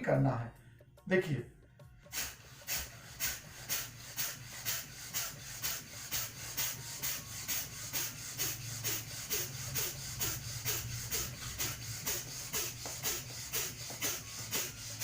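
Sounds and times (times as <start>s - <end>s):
person breathing forcefully through nose: 2.1s - 15.0s.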